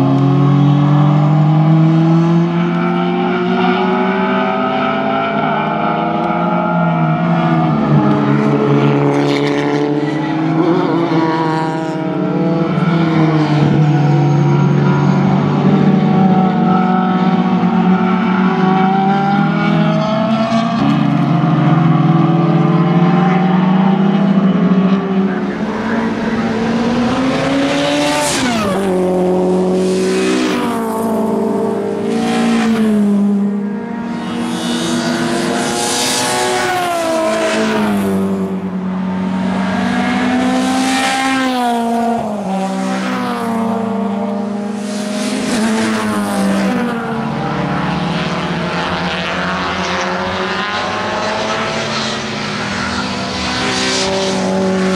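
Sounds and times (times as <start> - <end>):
racing car engines passing: 0.0 - 54.9.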